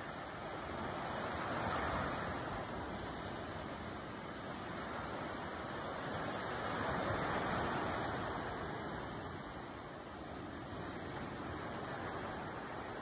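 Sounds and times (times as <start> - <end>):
sea waves breaking on sand and rocks: 0.0 - 13.0.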